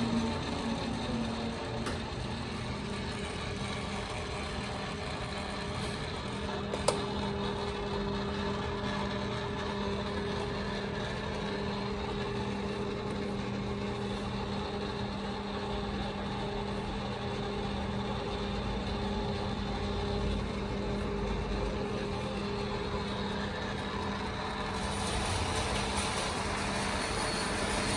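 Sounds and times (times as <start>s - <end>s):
lathe motor humming: 0.0s - 27.9s.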